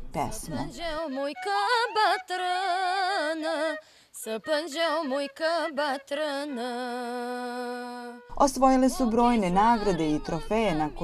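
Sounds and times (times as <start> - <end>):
woman singing a folk melody: 0.0 - 11.0.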